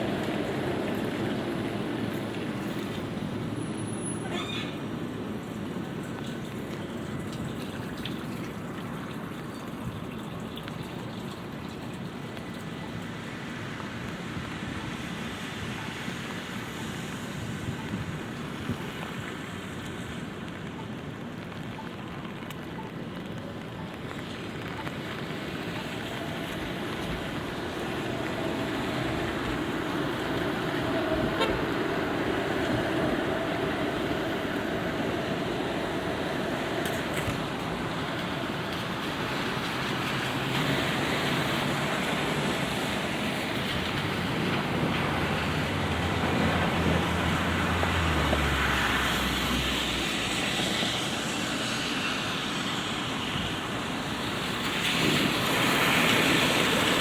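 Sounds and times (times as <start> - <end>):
steady rain hiss: 0.0 - 57.0
vehicles passing on wet road: 0.0 - 57.0.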